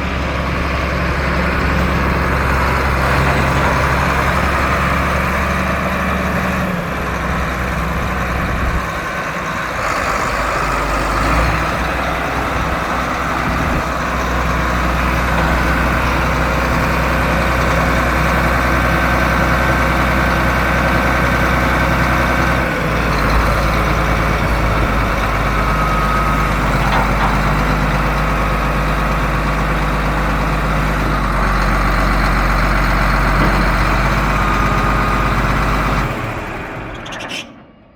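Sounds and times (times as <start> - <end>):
tractor diesel engine idling: 0.0 - 37.9.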